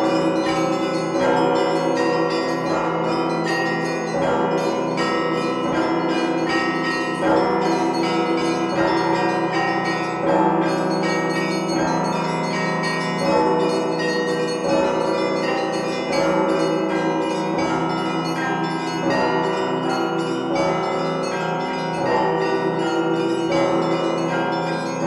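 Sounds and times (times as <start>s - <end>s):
hum of large bells: 0.0s - 25.0s.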